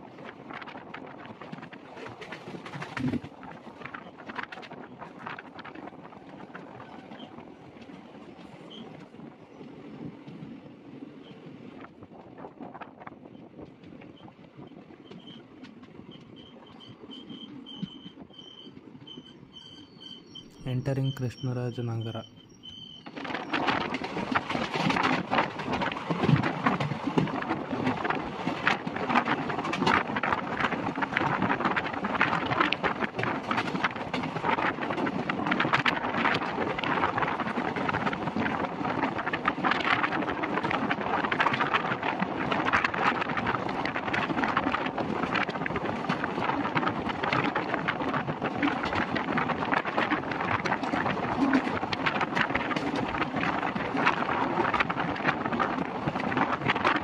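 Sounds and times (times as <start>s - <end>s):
train wheels clattering on rails: 0.0s - 10.6s, 11.2s - 21.2s, 22.0s - 57.0s
wind rushing over microphone: 0.0s - 15.0s, 23.0s - 57.0s.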